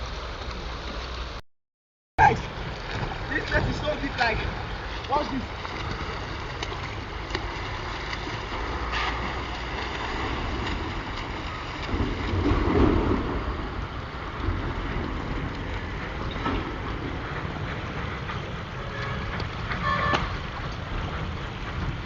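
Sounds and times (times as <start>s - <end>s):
water splashing and sloshing: 0.0s - 1.4s, 2.2s - 22.0s
wind buffeting microphone: 2.2s - 22.0s.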